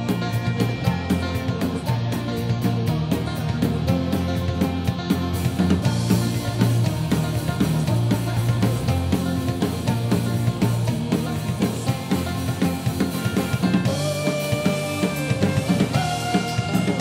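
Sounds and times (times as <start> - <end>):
banjo: 0.0 - 17.0
drum kit beat: 0.0 - 17.0
low bass line: 0.0 - 17.0
strummed acoustic guitar: 0.0 - 17.0.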